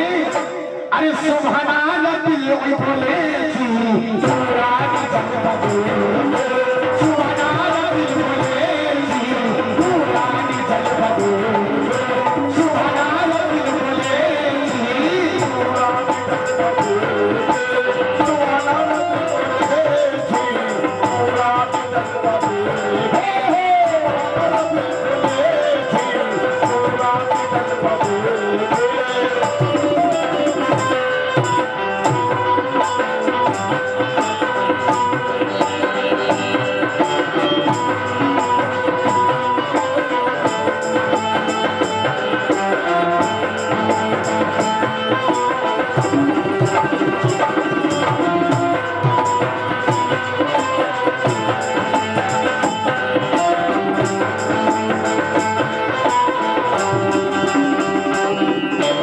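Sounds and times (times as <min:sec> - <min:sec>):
harmonium melody: 0:00.0 - 0:59.0
hand drum beat: 0:04.0 - 0:59.0.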